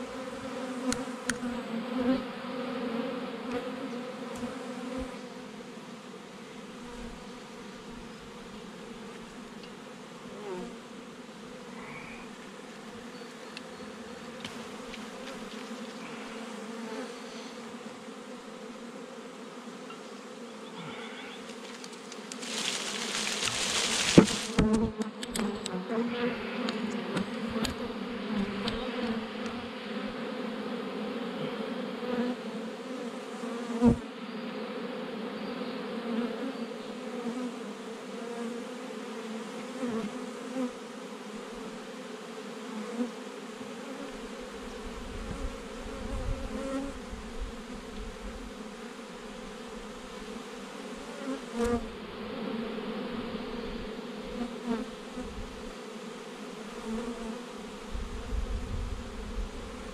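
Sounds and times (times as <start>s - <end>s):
bee swarm buzzing: 0.0s - 59.9s.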